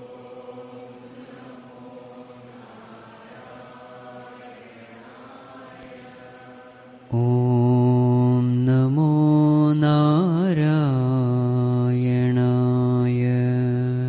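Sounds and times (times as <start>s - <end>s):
faint devotional chanting: 0.0s - 14.0s.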